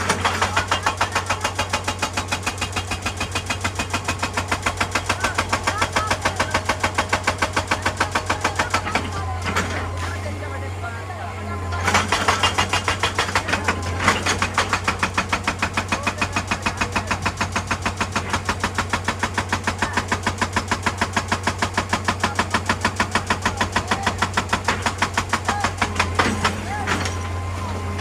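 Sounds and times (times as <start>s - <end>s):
excavator engine hum: 0.0s - 28.0s
hydraulic breaker hammering rock: 0.0s - 28.0s.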